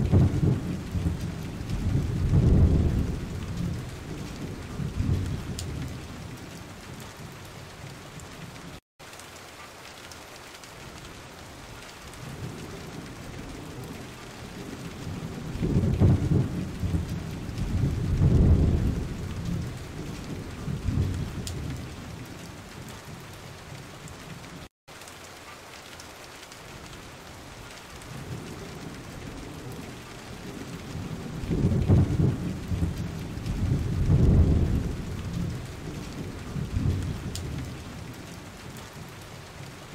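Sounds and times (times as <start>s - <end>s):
thunder rumbling: 0.0s - 8.7s, 12.1s - 24.4s, 28.0s - 39.8s
heavy rain: 0.0s - 39.9s.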